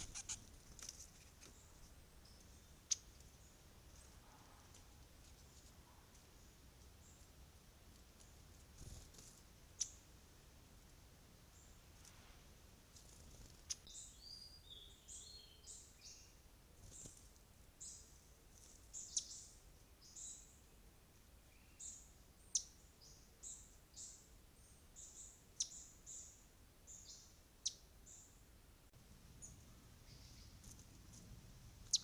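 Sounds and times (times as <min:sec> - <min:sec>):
bird chirping: 0:00.0 - 0:07.4, 0:08.2 - 0:10.1, 0:11.5 - 0:12.1, 0:12.9 - 0:17.2, 0:17.8 - 0:20.8, 0:21.4 - 0:28.4, 0:29.3 - 0:32.0
faint forest background: 0:00.0 - 0:32.0.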